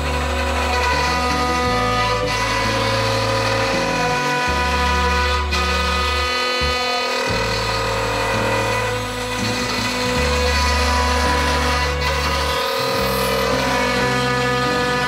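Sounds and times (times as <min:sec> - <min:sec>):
background music with bass line: 0:00.0 - 0:15.0
router spindle milling metal: 0:00.0 - 0:15.0.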